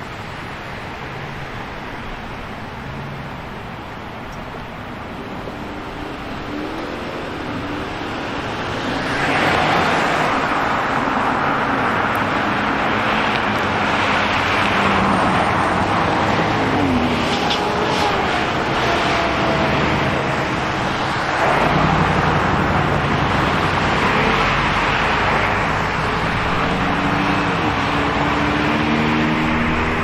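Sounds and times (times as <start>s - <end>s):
cars driving past: 0.0s - 30.0s.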